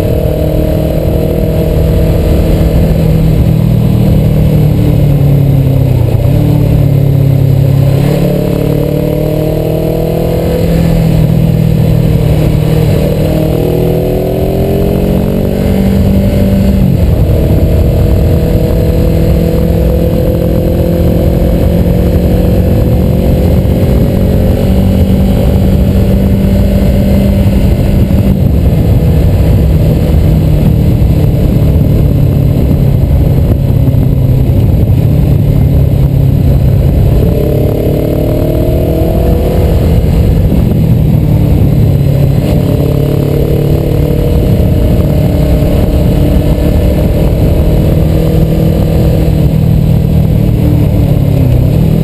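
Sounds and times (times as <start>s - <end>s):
motorcycle engine running: 0.0s - 52.0s
wind noise on microphone: 0.0s - 52.0s.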